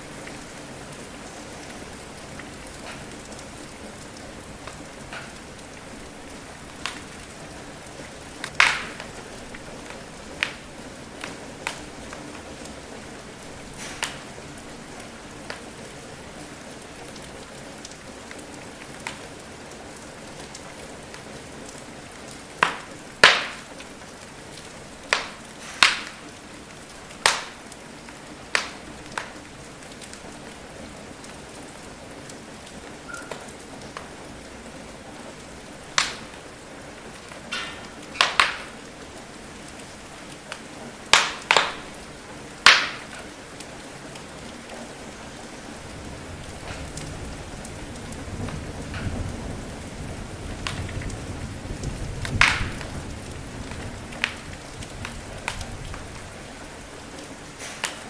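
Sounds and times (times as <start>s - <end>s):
rain hiss: 0.0s - 58.0s
wood fire crackling and popping: 0.0s - 58.0s.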